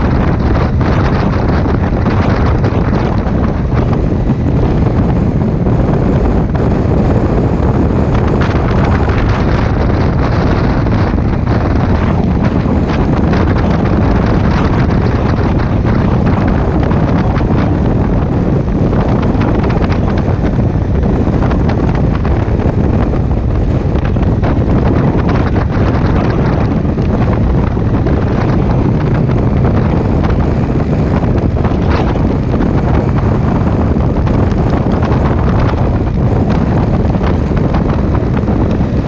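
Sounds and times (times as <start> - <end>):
motorcycle engine: 0.0 - 39.0
road noise: 0.0 - 39.0
wind buffeting microphone: 0.0 - 39.0.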